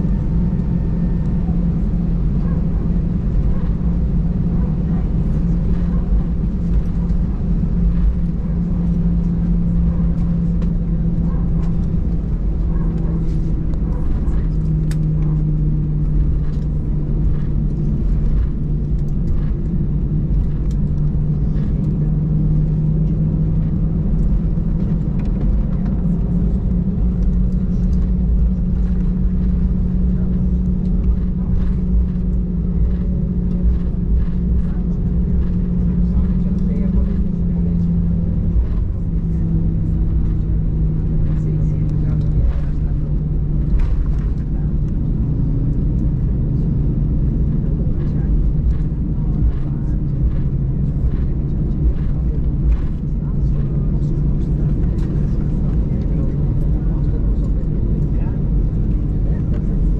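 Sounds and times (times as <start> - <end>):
airplane cabin engine hum: 0.0 - 59.9.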